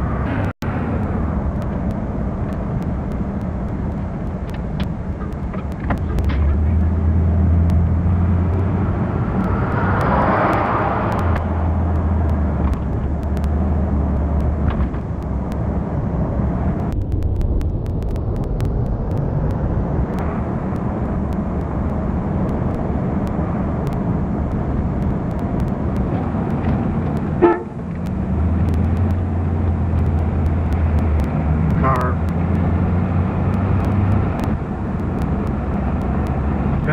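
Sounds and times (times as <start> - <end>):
car engine and tyre noise: 0.0 - 36.9
low hum: 0.0 - 36.9.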